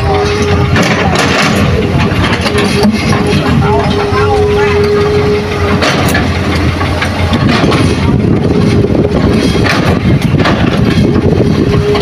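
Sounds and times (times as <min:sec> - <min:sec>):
diesel engines running: 0:00.0 - 0:12.0
steady whine: 0:00.0 - 0:12.0.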